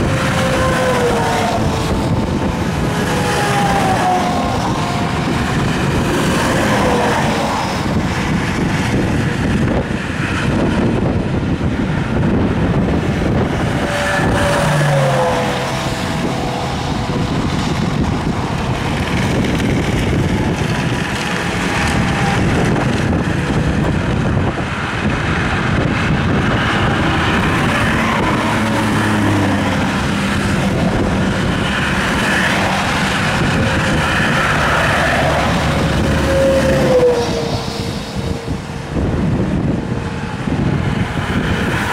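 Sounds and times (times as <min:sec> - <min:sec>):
highway traffic passing: 0:00.0 - 0:41.9
trucks passing: 0:00.0 - 0:41.9
wind on microphone: 0:00.0 - 0:41.9.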